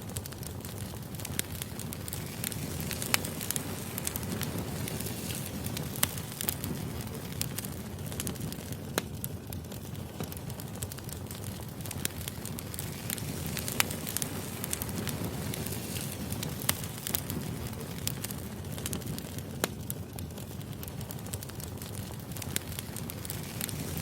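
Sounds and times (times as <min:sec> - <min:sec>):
firewood popping and snapping: 0:00.0 - 0:24.0
flames rushing: 0:00.0 - 0:24.0.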